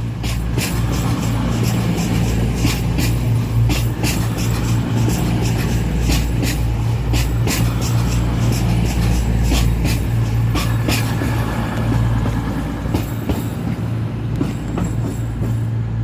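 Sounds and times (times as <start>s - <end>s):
diesel train engine hum: 0.0s - 16.0s
wheels clicking on track: 0.0s - 16.0s.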